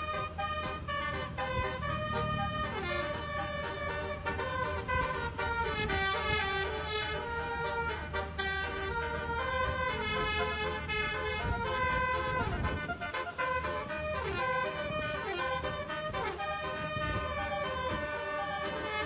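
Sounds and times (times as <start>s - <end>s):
multi-tone horn melody: 0.0s - 19.0s.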